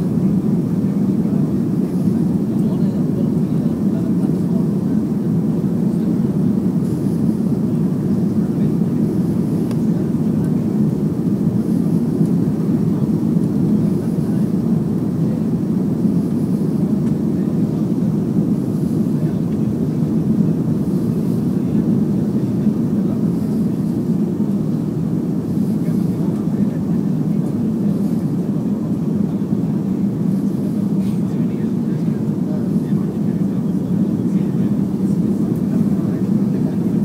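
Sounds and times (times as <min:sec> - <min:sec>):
airliner cabin engine noise: 0:00.0 - 0:37.0.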